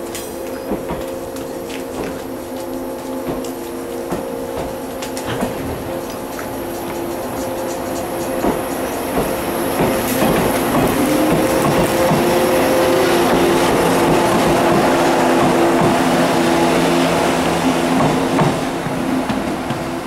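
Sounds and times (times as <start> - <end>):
train wheels clacking over rail joints: 0.0 - 16.4, 17.9 - 20.0
train multi-toned hum: 0.0 - 20.0.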